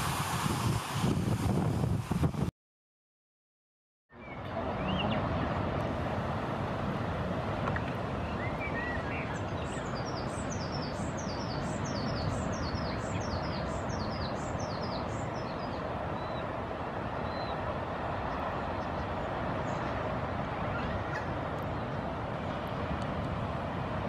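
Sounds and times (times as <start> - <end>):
steady rushing noise: 0.0 - 2.5, 4.3 - 24.0.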